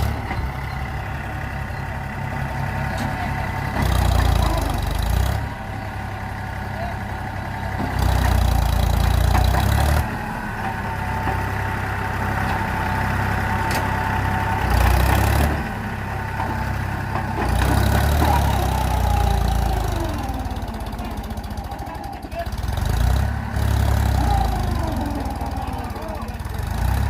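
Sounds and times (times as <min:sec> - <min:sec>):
diesel tractor engine running: 0:00.0 - 0:27.0.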